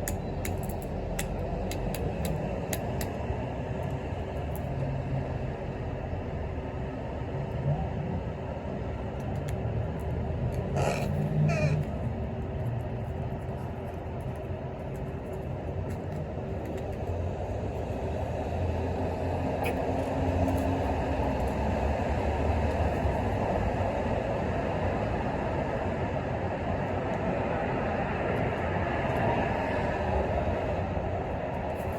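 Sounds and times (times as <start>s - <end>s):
road traffic rumble: 0.0s - 31.9s.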